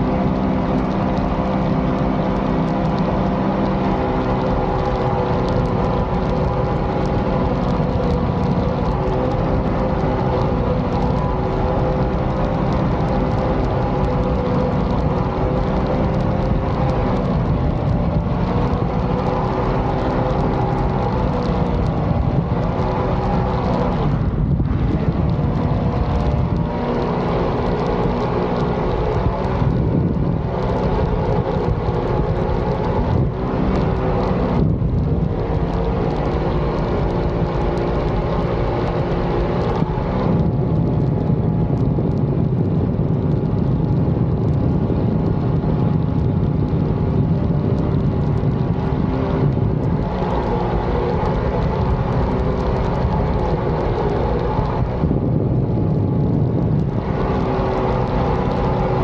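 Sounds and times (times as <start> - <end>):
rushing water: 0.0 - 59.0
wind: 0.0 - 59.0.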